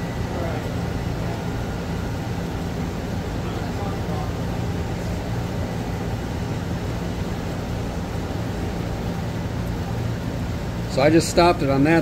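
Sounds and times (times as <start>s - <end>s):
machine motor hum: 0.0s - 12.0s.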